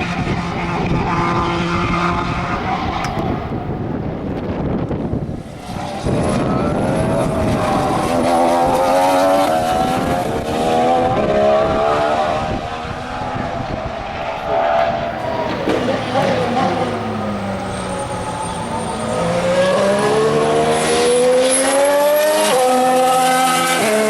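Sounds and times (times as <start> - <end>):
racing car engine at speed: 0.0 - 24.0.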